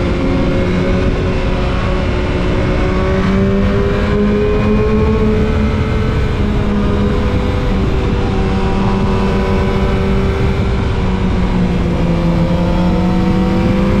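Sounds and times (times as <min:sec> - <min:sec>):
motorcycle engine running: 0:00.0 - 0:14.0
wind noise: 0:00.0 - 0:14.0.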